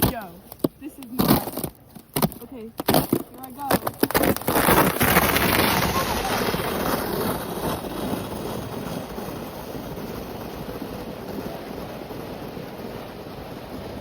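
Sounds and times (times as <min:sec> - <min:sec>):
plastic sled scraping on icy snow: 0:00.0 - 0:14.0.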